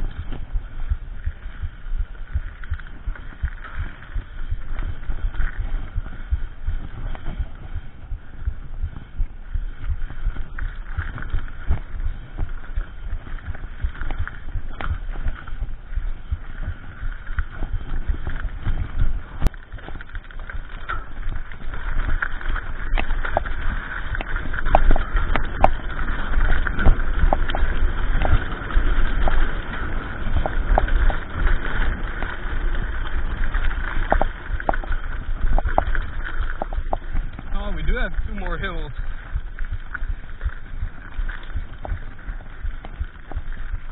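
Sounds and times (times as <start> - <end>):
bike rattling and knocking: 0.0 - 43.9
tyre rumble on dirt: 0.0 - 43.9
wind buffeting: 0.0 - 43.9.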